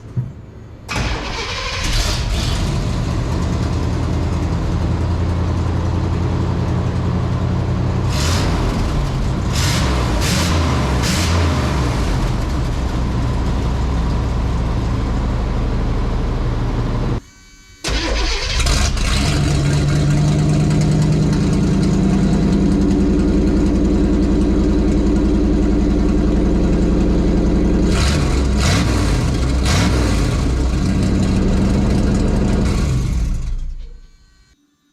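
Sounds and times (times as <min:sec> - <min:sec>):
car engine revving: 0:00.9 - 0:17.2, 0:17.9 - 0:33.8.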